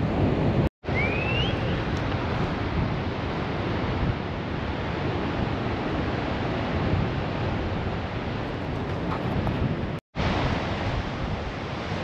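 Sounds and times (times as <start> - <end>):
ocean surf rushing: 0.0 - 12.0
wind buffeting microphone: 0.0 - 12.0.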